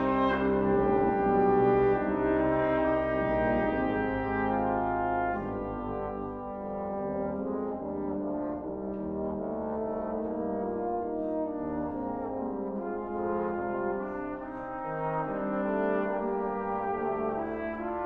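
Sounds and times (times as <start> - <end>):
trombone choir playing chords: 0.0 - 18.0.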